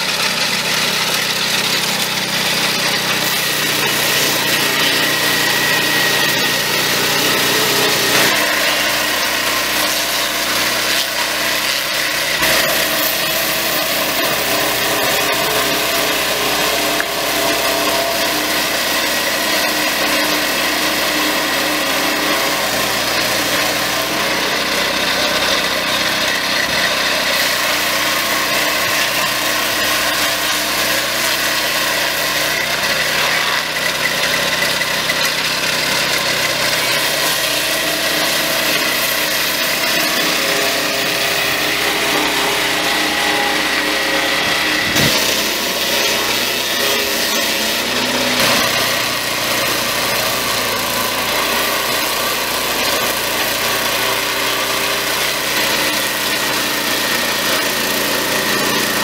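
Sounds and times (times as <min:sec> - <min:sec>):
sawmill cutting log: 0:00.0 - 0:59.0.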